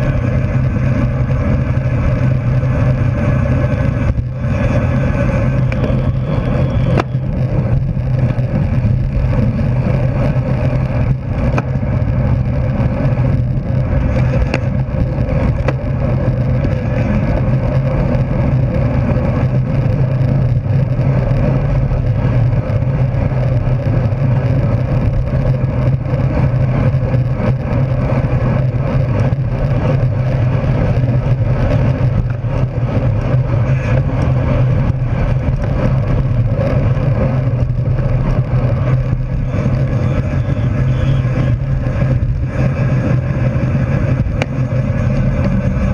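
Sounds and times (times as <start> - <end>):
bike tyres humming on asphalt: 0.0 - 45.9
wind rush on microphone: 0.0 - 45.9.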